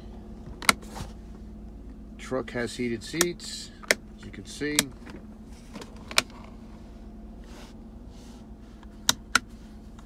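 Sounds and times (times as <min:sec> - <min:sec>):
idling vehicle cabin hum: 0:00.0 - 0:10.0.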